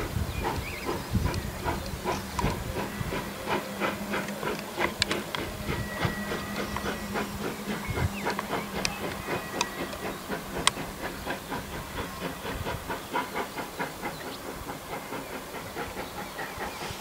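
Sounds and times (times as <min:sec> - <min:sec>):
steam hissing: 0:00.0 - 0:17.0
steam locomotive exhaust beating: 0:00.0 - 0:17.0.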